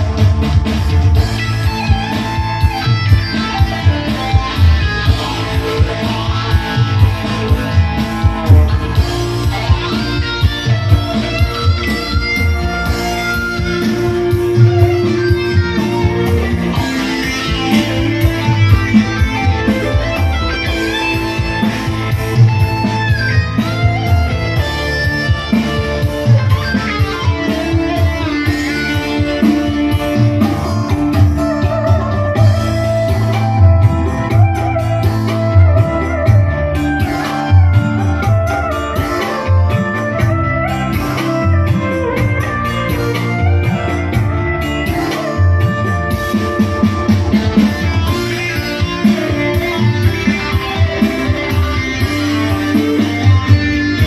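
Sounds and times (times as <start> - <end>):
live band instrumental music: 0.0 - 54.0.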